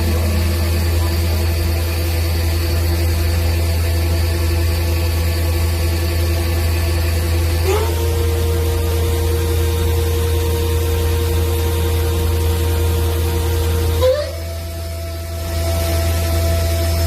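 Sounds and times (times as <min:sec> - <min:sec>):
machine low hum: 0:00.0 - 0:17.0
motor whine: 0:00.0 - 0:17.0.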